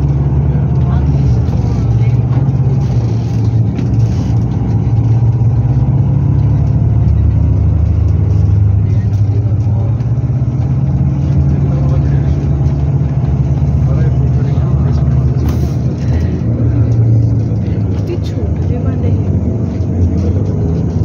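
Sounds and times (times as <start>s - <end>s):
faint passenger voices murmuring: 0.0s - 5.6s, 6.8s - 21.0s
bus engine drone: 0.0s - 21.0s.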